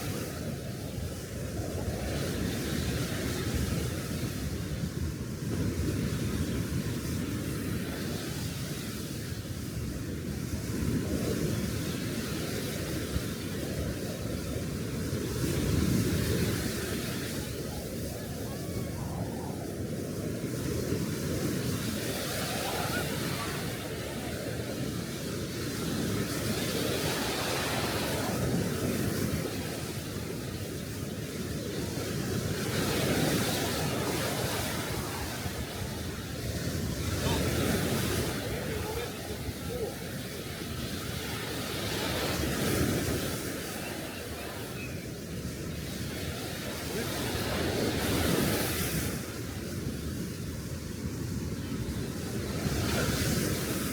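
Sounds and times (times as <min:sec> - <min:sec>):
waves washing on beach: 0:00.0 - 0:53.9
wind rumbling on microphone: 0:00.0 - 0:53.9.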